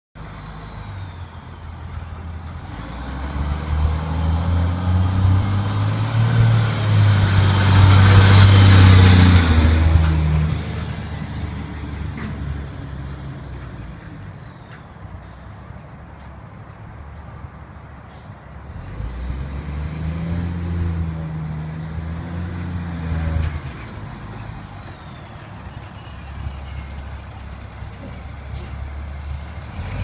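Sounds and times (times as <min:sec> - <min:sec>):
diesel truck driving past: 0:00.2 - 0:30.0.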